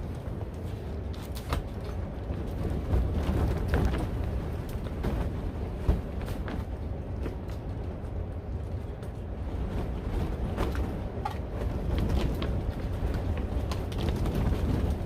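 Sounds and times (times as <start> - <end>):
strong wind buffeting: 0.0 - 15.0.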